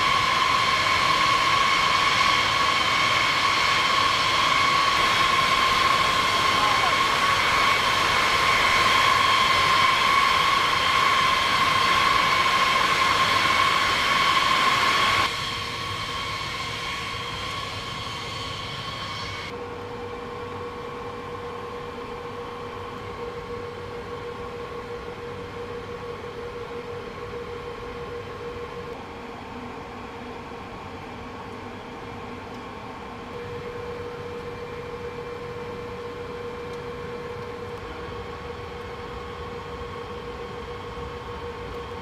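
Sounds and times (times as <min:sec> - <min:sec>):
aircraft engine whine: 0:00.0 - 0:42.0.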